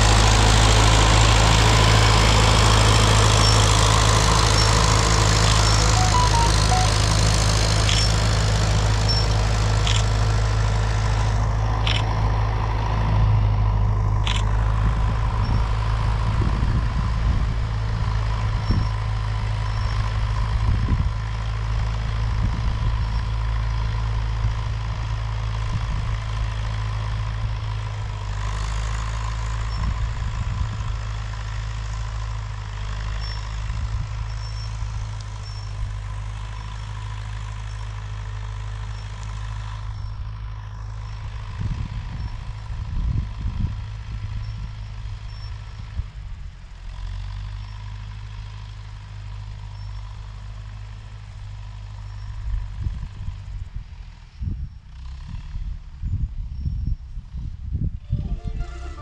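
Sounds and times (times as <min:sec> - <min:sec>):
tractor diesel engine running: 0:00.0 - 0:54.3, 0:57.7 - 0:59.0.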